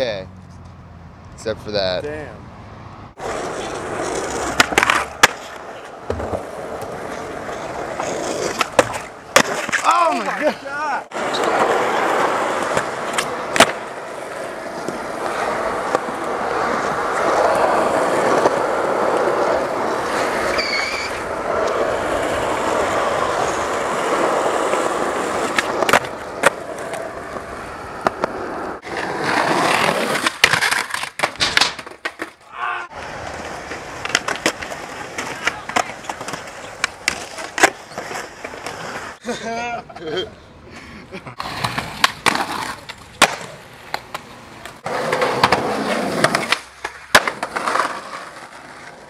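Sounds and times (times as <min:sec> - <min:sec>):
skateboard wheels rolling on concrete: 0:00.0 - 0:49.0
skateboard clacking on ground: 0:03.2 - 0:32.4, 0:33.0 - 0:38.8, 0:41.4 - 0:49.0.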